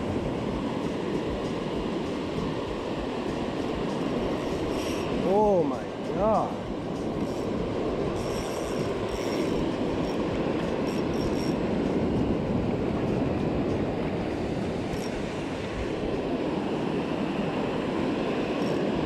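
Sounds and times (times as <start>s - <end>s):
ocean waves breaking on sand: 0.0s - 19.0s.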